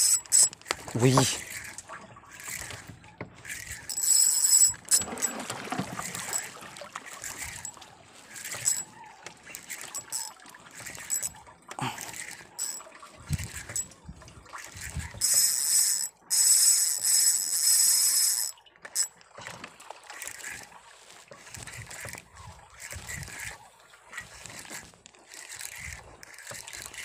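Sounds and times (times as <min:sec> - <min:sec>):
fishing reel gears whirring: 0:00.0 - 0:27.0
water lapping against boat: 0:00.6 - 0:15.2, 0:18.7 - 0:27.0.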